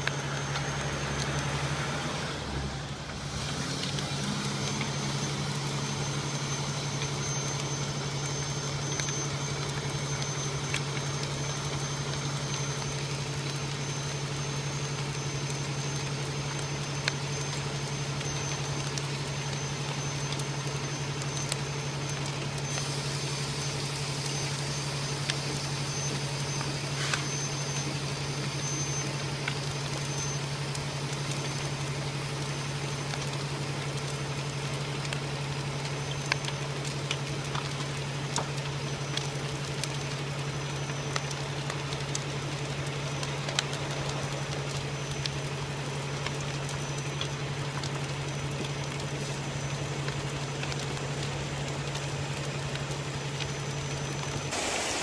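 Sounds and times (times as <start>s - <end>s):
burning logs cracking: 0.0s - 55.0s.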